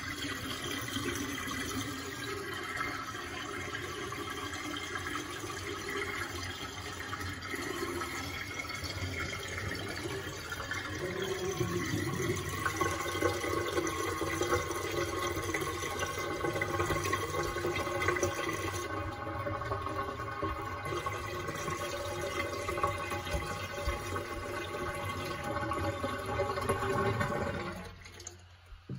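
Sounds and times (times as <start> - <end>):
water gurgling down sink drain: 0.0 - 28.9.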